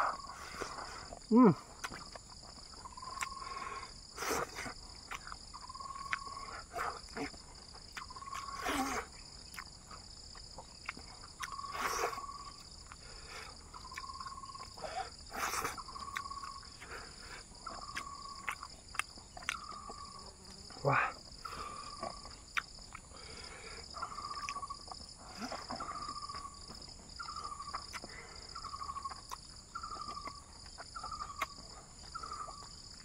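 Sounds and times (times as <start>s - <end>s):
high insect drone: 0.0s - 33.0s
person chewing with lip smacks: 1.8s - 3.4s, 4.2s - 6.4s, 7.0s - 20.1s, 22.0s - 23.1s, 24.0s - 33.0s.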